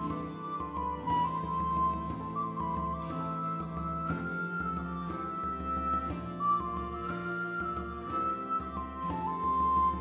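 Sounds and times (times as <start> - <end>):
folk tune with flute-like melody: 0.0 - 10.0.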